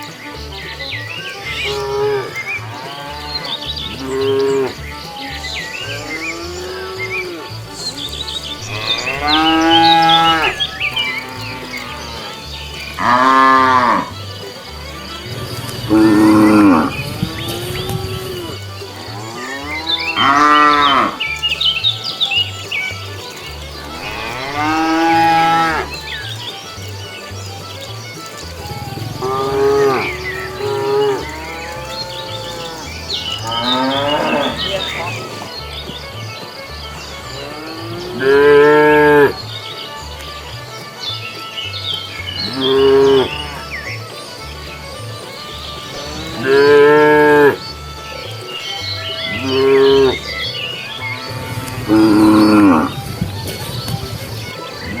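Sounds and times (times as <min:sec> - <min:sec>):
cows mooing: 0:01.3 - 0:27.4, 0:28.2 - 0:35.5, 0:37.3 - 0:39.4, 0:42.0 - 0:43.9, 0:45.7 - 0:53.2.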